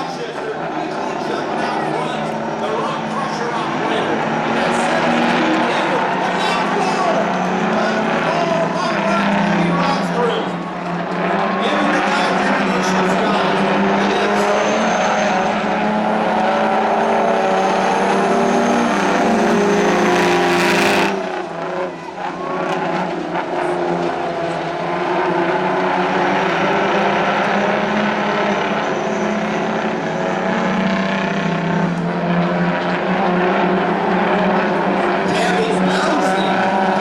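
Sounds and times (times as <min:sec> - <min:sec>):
racing diesel truck engines: 0:00.0 - 0:37.0.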